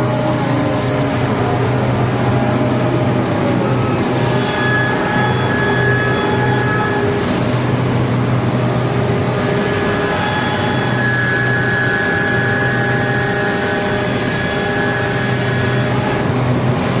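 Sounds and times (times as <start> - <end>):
diesel engine running: 0.0 - 17.0
thin high whine: 0.0 - 17.0.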